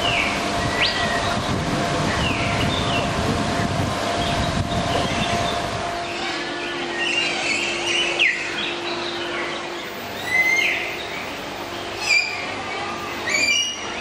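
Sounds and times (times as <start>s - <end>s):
birds chirping: 0.0s - 14.0s
faint steady hum: 0.0s - 14.0s.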